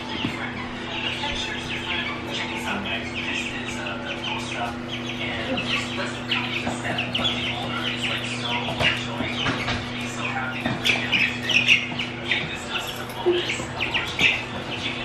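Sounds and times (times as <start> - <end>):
chicks peeping: 0.0 - 15.0
steady low hum: 0.0 - 15.0.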